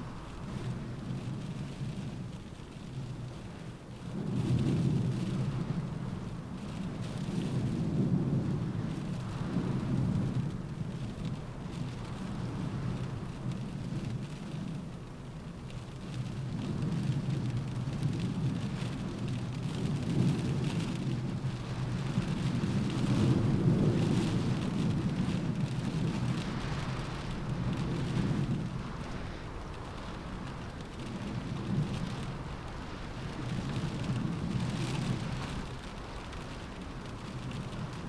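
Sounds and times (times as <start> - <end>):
low wind rumble: 0.0 - 38.0
rain on a window: 0.0 - 38.0.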